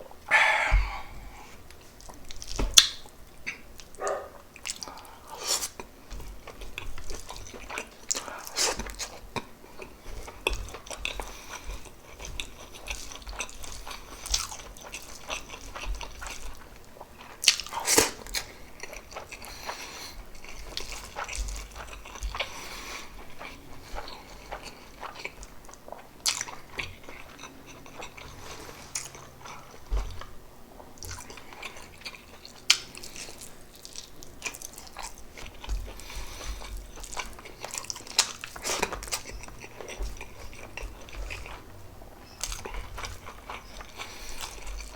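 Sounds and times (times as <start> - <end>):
close-miked chewing: 0.0 - 44.9.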